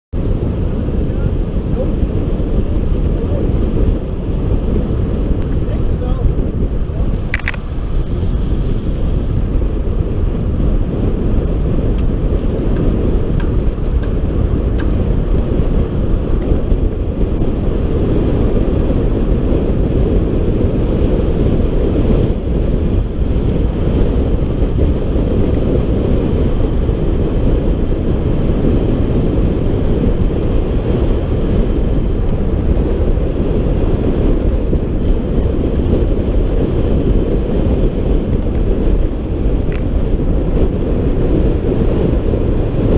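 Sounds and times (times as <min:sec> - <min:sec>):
wind buffeting microphone: 0:00.1 - 0:42.9.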